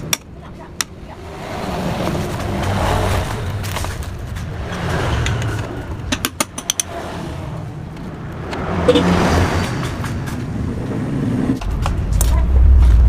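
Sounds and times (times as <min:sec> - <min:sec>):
vehicle going by: 0:01.0 - 0:13.0.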